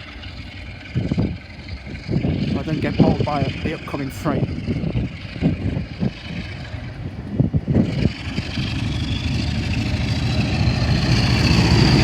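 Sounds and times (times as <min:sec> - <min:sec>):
diesel locomotive engine rumbling: 0:00.0 - 0:12.0
wind buffeting microphone: 0:00.0 - 0:12.0.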